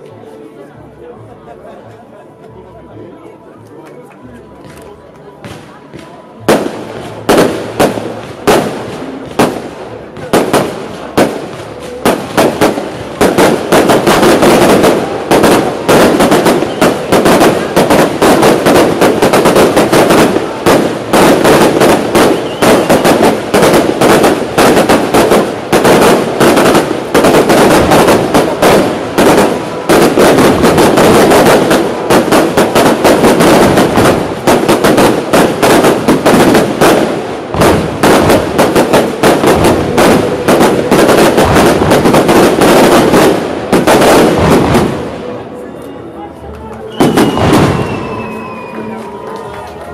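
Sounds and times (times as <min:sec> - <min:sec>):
fireworks bangs and crackles: 0:03.6 - 0:49.9.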